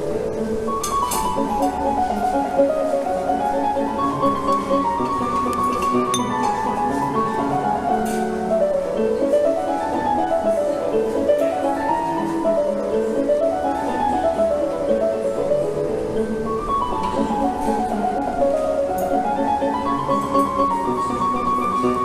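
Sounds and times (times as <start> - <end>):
melodic piano music: 0.0 - 22.0.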